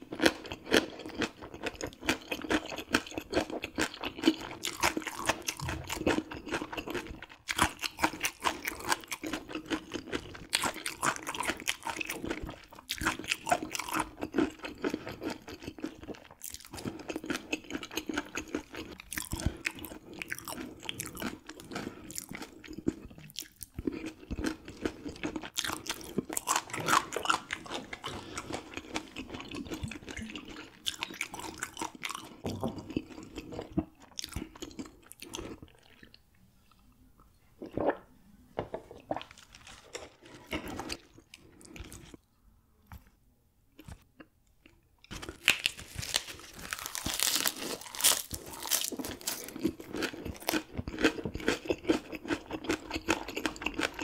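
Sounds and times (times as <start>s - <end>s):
chewing crunchy fish bones: 0.0s - 36.2s, 43.8s - 54.0s.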